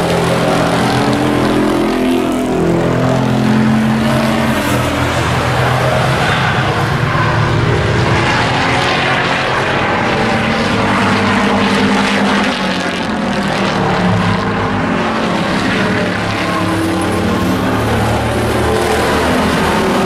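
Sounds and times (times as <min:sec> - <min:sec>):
race truck engines droning: 0:00.0 - 0:20.0.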